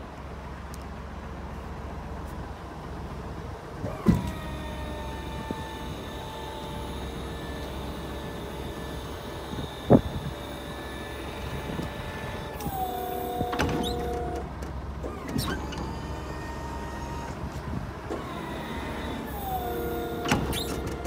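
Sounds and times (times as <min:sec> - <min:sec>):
hydraulic pump whining: 0:03.7 - 0:21.0.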